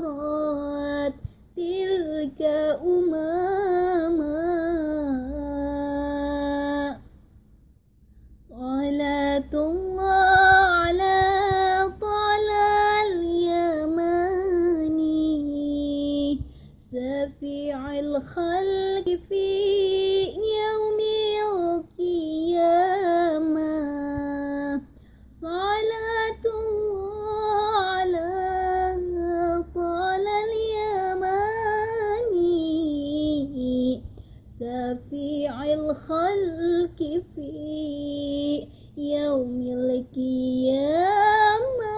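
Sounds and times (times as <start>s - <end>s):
woman singing unaccompanied: 0.0s - 7.1s, 8.4s - 41.9s.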